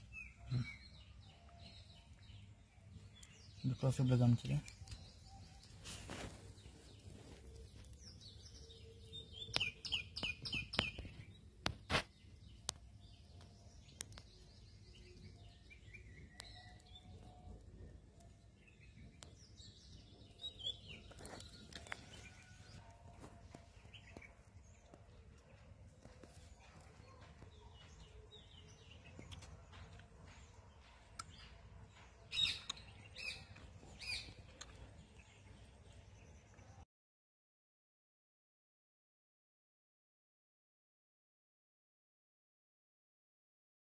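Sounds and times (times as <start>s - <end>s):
birds chirping: 0.0s - 36.8s.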